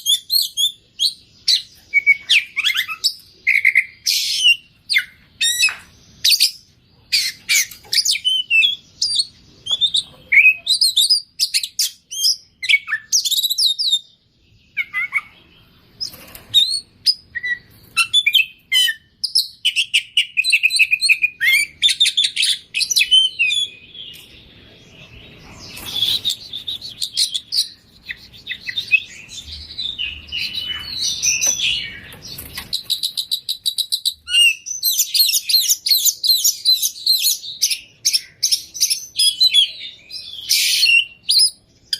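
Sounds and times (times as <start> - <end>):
bird singing whistles and trills: 0.0 - 24.4, 25.0 - 41.9.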